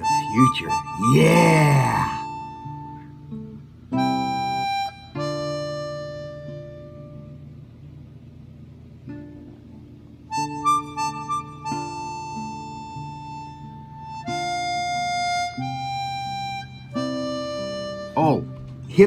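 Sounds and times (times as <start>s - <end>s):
harmonica: 0.0s - 3.3s, 3.9s - 7.2s, 10.3s - 19.0s
guitar: 0.0s - 19.0s.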